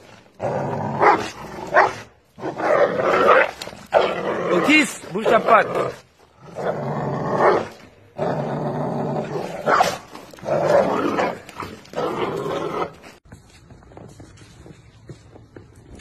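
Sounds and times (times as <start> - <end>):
dogs growling in play: 0.0 - 13.2.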